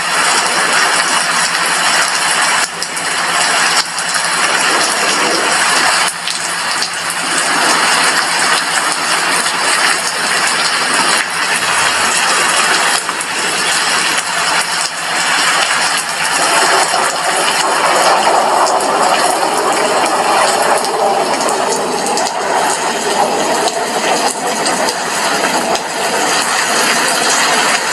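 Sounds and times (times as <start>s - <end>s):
heavy rain on glass window: 0.0s - 27.9s.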